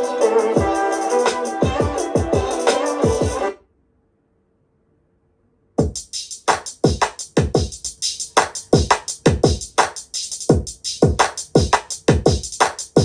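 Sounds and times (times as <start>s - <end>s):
electronic beat over speaker: 0.0s - 3.5s, 5.8s - 13.0s.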